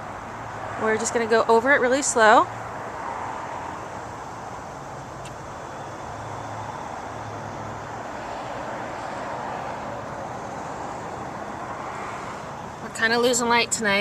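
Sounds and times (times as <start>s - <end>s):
distant road traffic hum: 0.0s - 14.0s.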